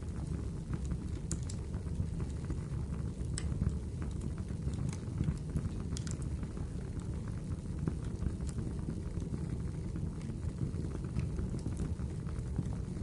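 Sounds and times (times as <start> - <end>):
firewood crackling: 0.0 - 13.0
low rush of flames: 0.0 - 13.0.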